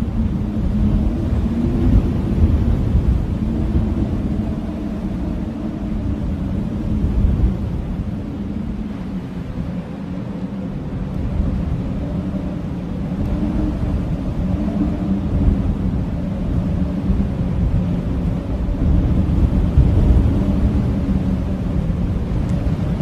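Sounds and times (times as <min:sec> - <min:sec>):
blizzard wind howling: 0:00.0 - 0:23.0.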